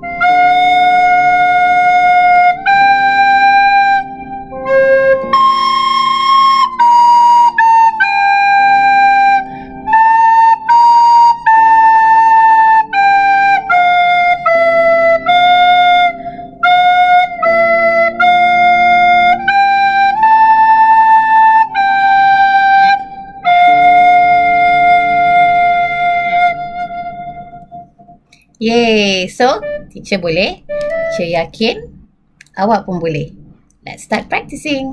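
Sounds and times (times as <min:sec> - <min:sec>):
recorder playing slow melody: 0:00.0 - 0:32.0.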